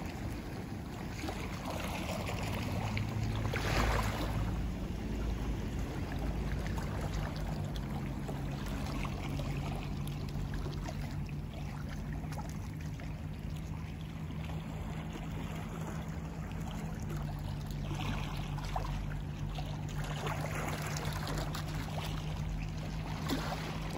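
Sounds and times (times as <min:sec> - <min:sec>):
low steady hum: 0:00.0 - 0:23.9
small waves lapping at shore: 0:00.0 - 0:23.9.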